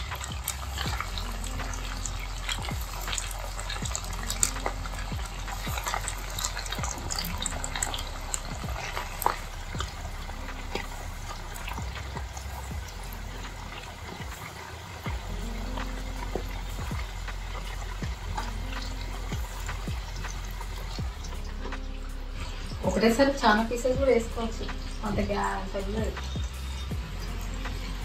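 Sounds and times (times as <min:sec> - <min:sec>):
chicken deep-frying in oil: 0:00.0 - 0:28.0
low hum: 0:00.0 - 0:28.0.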